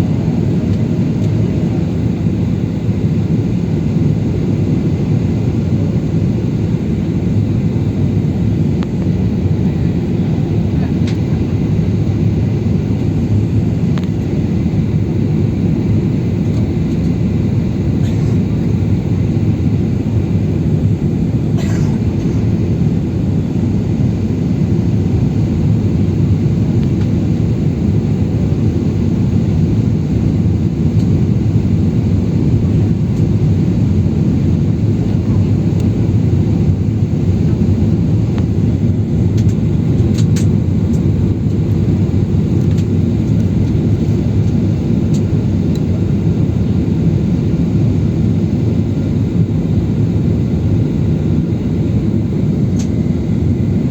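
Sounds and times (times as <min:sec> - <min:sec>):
airliner cabin drone: 0:00.0 - 0:53.9.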